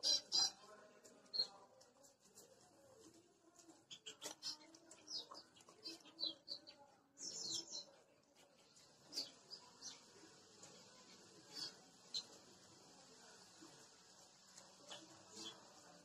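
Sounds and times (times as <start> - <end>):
small birds chirping: 0.0 - 1.6, 3.8 - 16.0.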